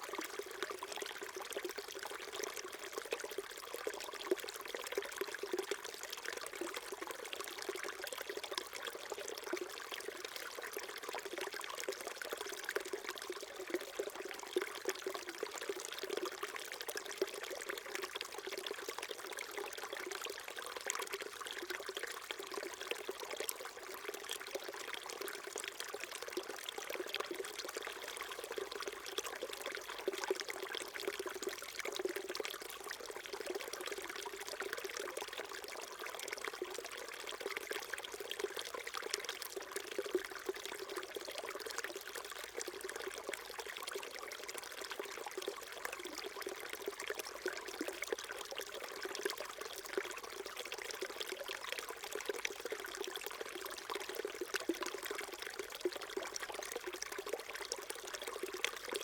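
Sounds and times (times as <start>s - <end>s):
stream babbling over stones: 0.0s - 59.0s.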